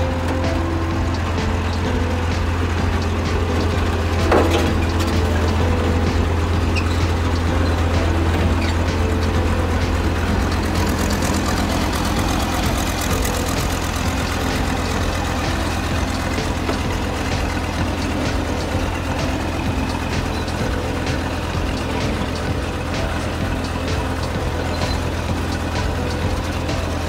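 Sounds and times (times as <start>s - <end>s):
deep low hum: 0.0s - 27.0s
road roller diesel engine running: 0.0s - 27.0s.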